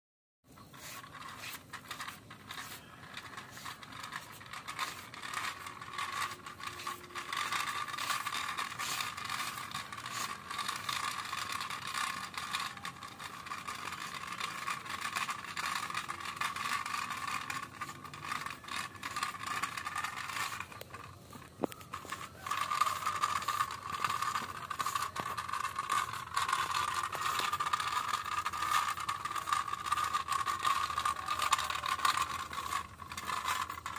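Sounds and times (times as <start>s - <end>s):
toy car rattling over concrete: 0.5s - 33.9s.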